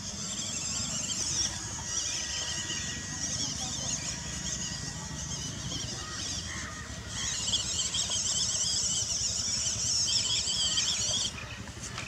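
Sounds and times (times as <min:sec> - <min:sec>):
rc truck motor whining: 0:00.0 - 0:12.0.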